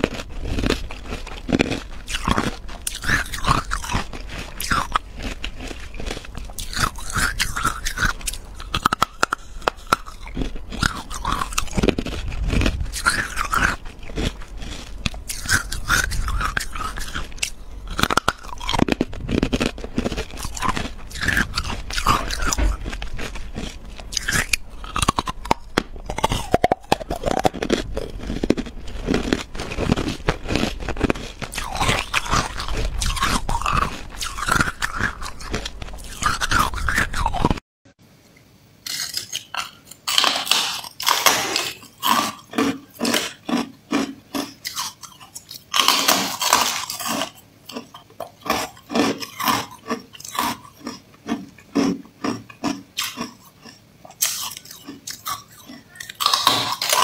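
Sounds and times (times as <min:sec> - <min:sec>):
ice being chewed: 0:00.0 - 0:37.6, 0:38.8 - 0:57.0.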